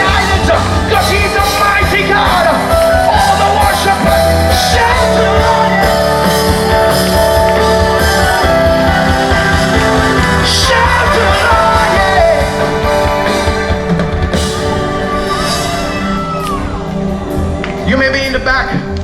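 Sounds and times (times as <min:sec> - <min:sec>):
person singing: 0:00.0 - 0:16.8
gospel band music: 0:00.0 - 0:19.0.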